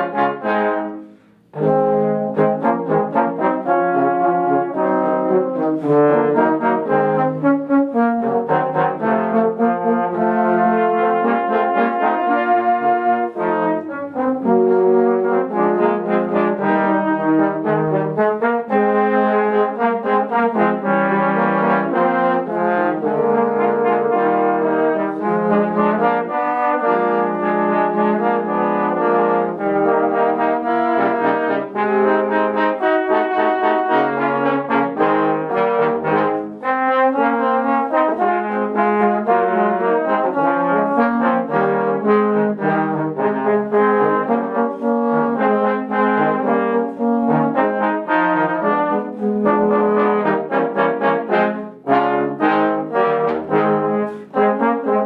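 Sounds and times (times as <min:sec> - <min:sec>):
trombone quartet playing: 0:00.0 - 0:55.0.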